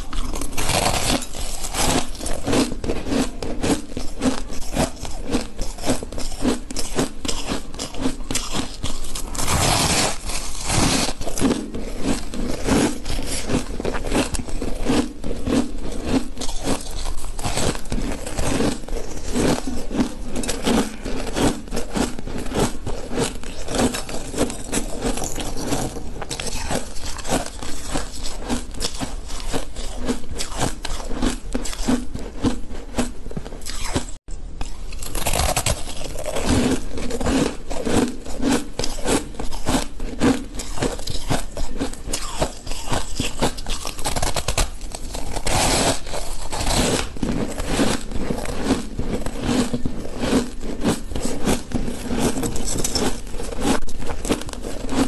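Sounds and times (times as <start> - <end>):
person crunching ice: 0.0 - 55.0.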